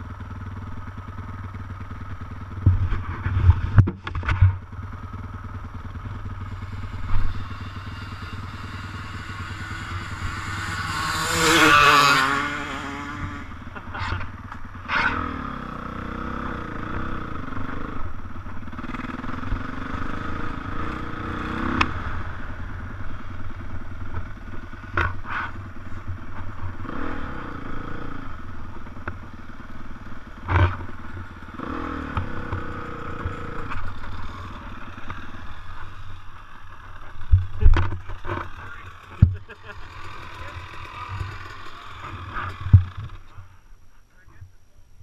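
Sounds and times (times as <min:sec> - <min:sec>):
dirt bike engine revving: 0:00.0 - 0:43.6.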